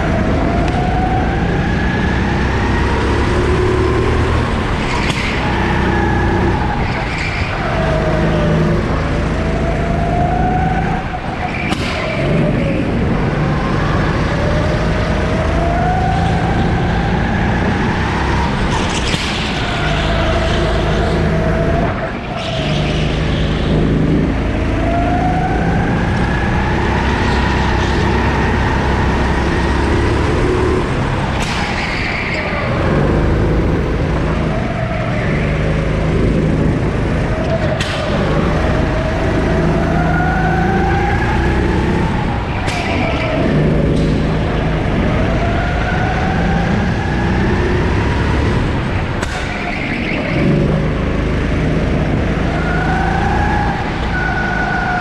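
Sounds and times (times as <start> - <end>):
kart engine at full throttle: 0.0 - 55.0.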